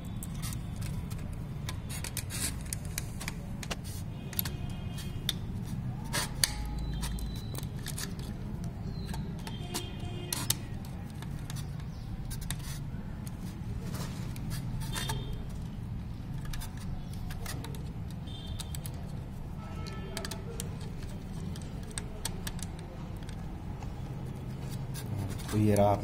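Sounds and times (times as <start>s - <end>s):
tools clicking and snipping wire: 0.0s - 13.5s, 14.3s - 26.0s.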